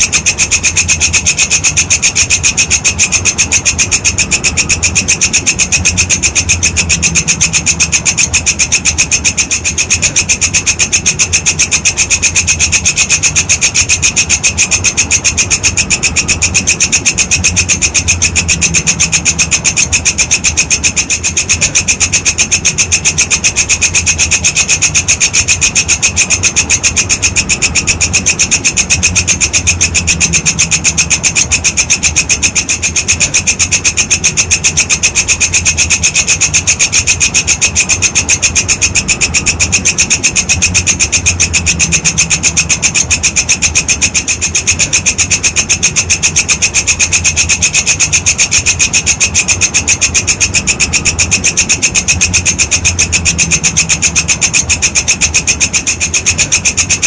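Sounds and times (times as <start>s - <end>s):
grasshopper rasping chirp: 0.0s - 57.0s.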